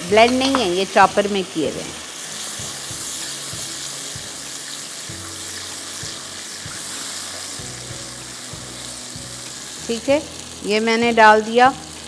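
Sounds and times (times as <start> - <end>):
tomatoes and onions sizzling in oil: 0.0 - 12.0.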